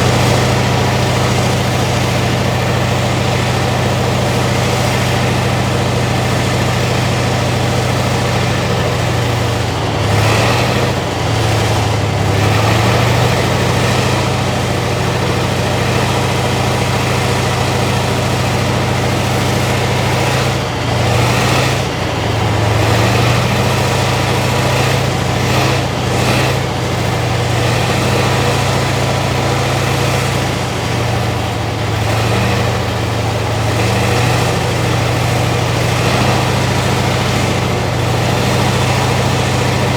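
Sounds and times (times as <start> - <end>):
tank diesel engine idling: 0.0 - 39.9.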